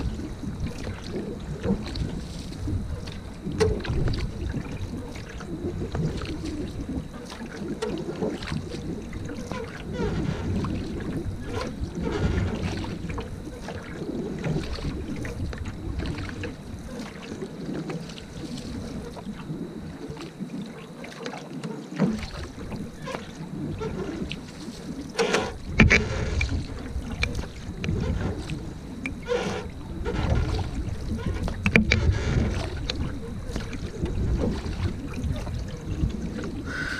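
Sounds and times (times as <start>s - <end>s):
wind rumbling on microphone: 0.0s - 20.8s, 22.0s - 36.9s
paddle strokes in water: 0.0s - 36.9s
water swishing along hull: 0.0s - 36.9s.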